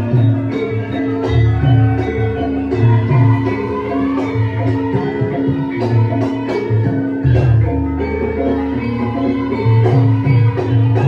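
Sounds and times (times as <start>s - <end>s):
drums: 0.0s - 11.0s
metallophone and gong notes: 0.0s - 11.0s.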